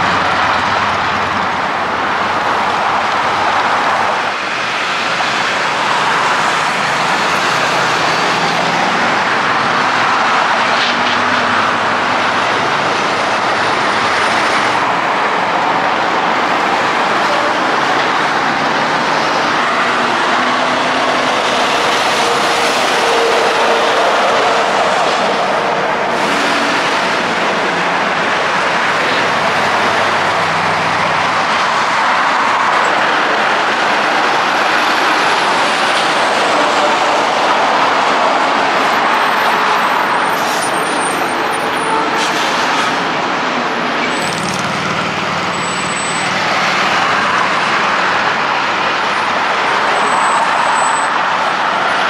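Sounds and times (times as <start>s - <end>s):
diesel engines: 0.0s - 52.0s
heavy truck engine close by: 0.0s - 52.0s
trucks and cars passing: 0.0s - 52.0s.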